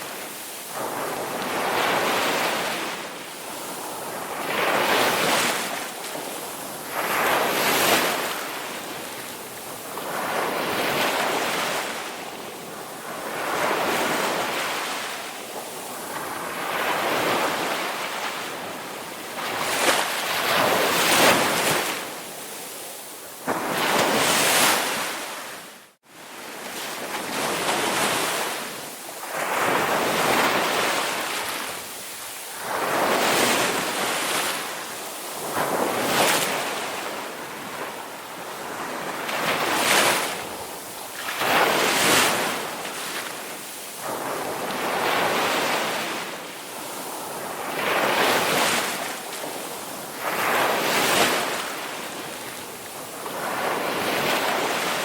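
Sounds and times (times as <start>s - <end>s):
ocean waves washing: 0.0s - 55.0s.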